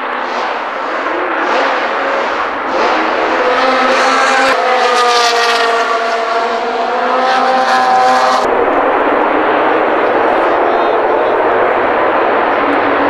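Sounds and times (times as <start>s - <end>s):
racing cars passing at speed: 0.0s - 13.0s.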